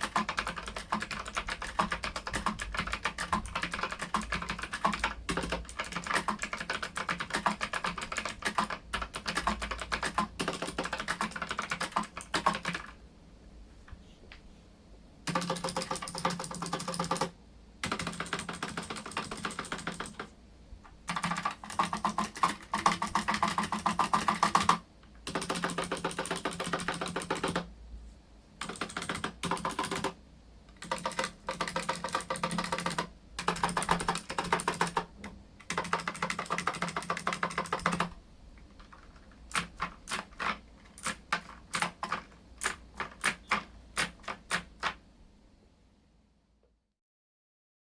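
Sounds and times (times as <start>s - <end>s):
mechanical keyboard clicking: 0.0s - 13.0s, 15.3s - 20.3s, 21.1s - 27.7s, 28.6s - 45.0s.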